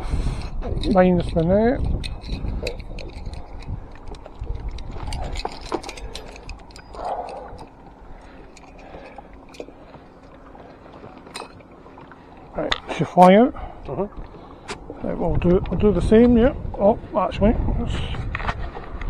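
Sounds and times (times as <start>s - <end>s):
fishing gear knocking and rustling: 0.3s - 16.4s.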